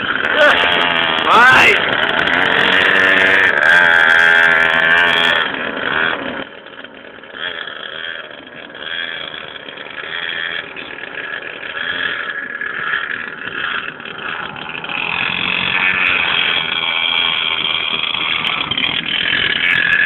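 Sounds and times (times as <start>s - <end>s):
mini motorcycle engine revving: 0.0s - 20.0s.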